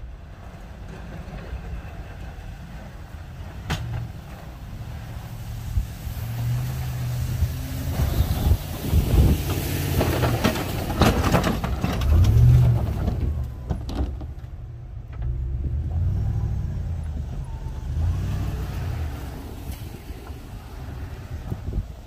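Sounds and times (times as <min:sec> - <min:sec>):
truck engine under load: 0:00.0 - 0:22.0.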